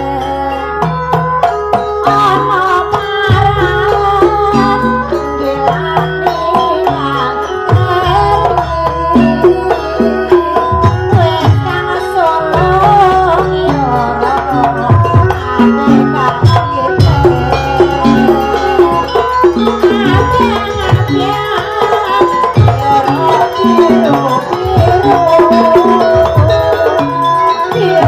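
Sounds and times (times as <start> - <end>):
drums keeping steady rhythm: 0.0 - 28.0
pitched percussion notes: 0.0 - 28.0
wavering melody line: 0.0 - 28.0.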